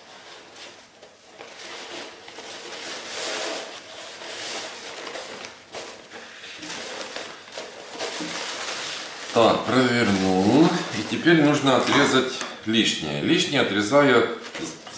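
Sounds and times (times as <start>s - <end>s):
crepe paper rustling and crinkling: 0.0s - 14.9s.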